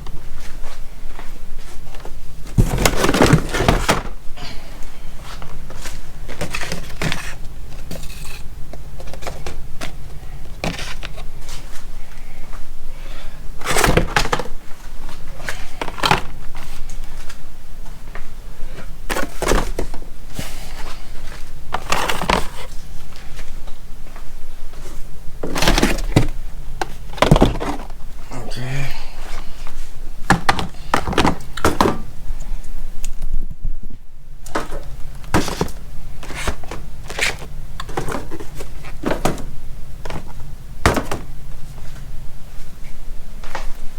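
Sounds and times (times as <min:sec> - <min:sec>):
packing and cardboard rustling: 0:00.0 - 0:28.3, 0:29.4 - 0:32.3, 0:34.4 - 0:43.9.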